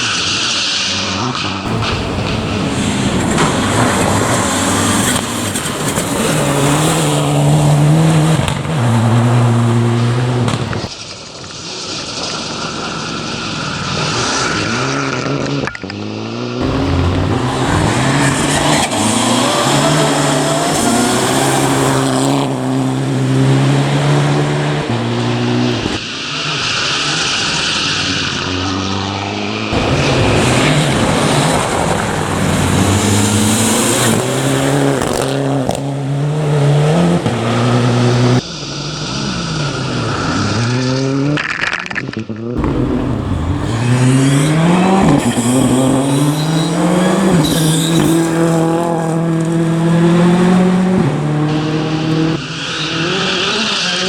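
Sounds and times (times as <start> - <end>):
rally car engines accelerating: 0.0 - 11.0, 14.2 - 54.0.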